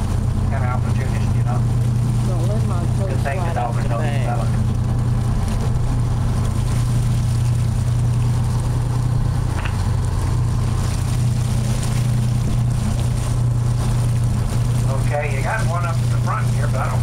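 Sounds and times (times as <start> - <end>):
boat engine droning: 0.0 - 17.0
water washing around hull: 0.0 - 17.0.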